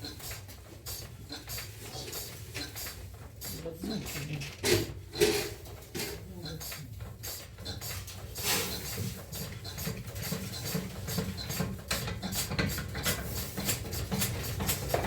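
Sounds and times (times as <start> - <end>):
mill clicking and clattering: 0.0 - 15.0.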